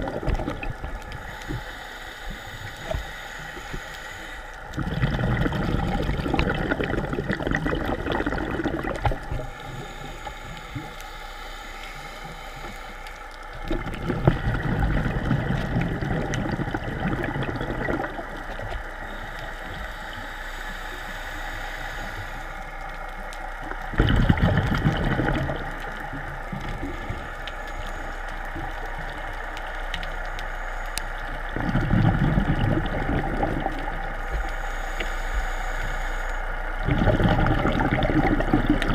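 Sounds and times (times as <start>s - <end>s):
steady hum: 0.0s - 38.9s
underwater bubbles gurgling: 0.0s - 38.9s.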